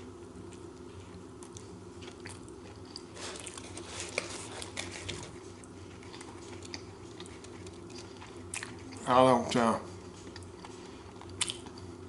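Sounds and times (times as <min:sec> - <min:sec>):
steady low hum: 0:00.0 - 0:12.0
person chewing food: 0:00.4 - 0:09.1, 0:09.9 - 0:12.0.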